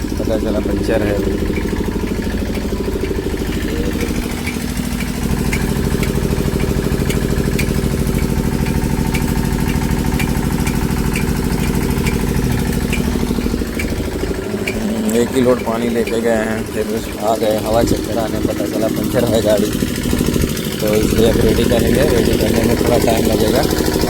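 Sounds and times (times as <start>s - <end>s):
engine idling: 0.0s - 24.0s
light regular ticks: 0.0s - 24.0s.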